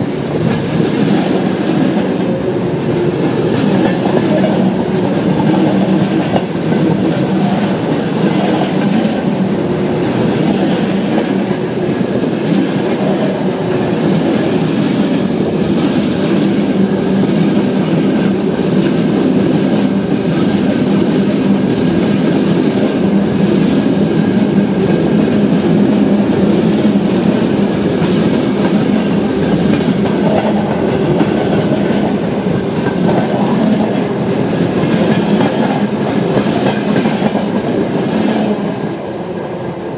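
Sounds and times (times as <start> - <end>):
clickety-clack of rail joints: 0.0 - 39.9
train wheels rumbling on rails: 0.0 - 39.9.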